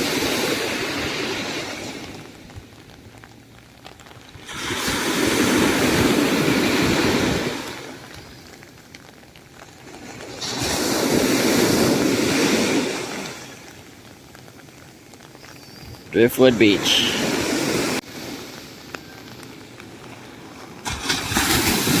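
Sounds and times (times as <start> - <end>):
heavy waves breaking on beach: 0.0 - 22.0.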